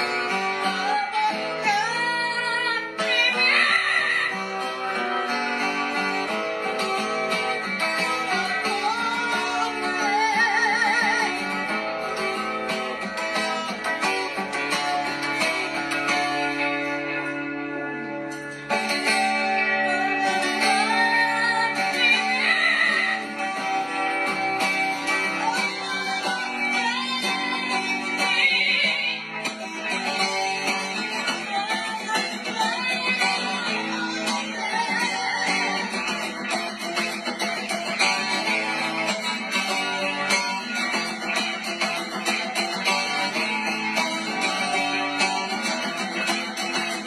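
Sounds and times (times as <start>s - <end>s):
plucked acoustic guitar music: 0.0s - 47.0s.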